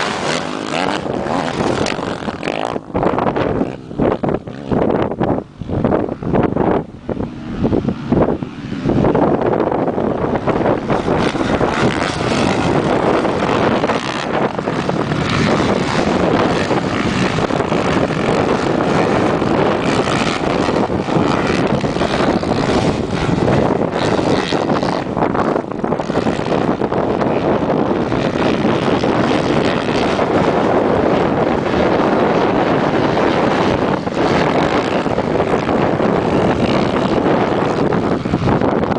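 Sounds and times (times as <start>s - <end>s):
motocross bike engines buzzing: 0.0s - 38.9s.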